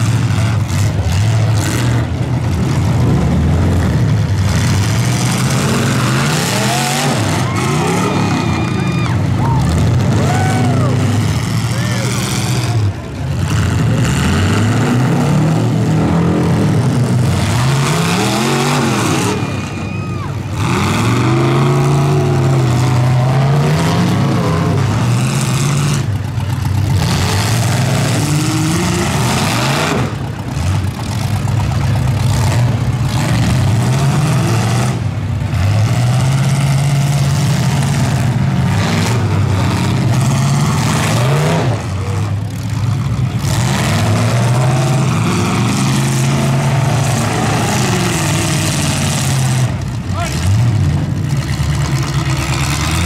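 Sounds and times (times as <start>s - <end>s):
truck engines revving hard: 0.0s - 53.0s.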